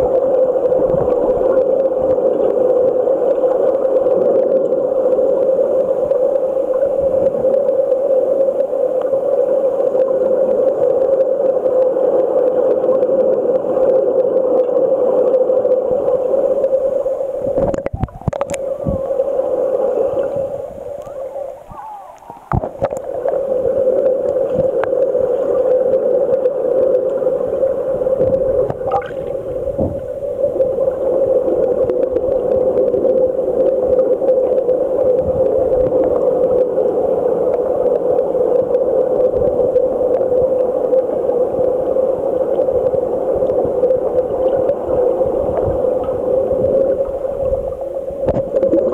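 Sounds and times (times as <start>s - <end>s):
muffled underwater rushing: 0.0s - 48.9s.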